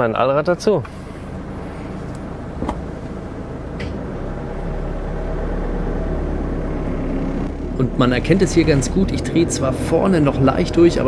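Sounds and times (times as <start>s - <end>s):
van engine rumbling under load: 0.0s - 11.0s.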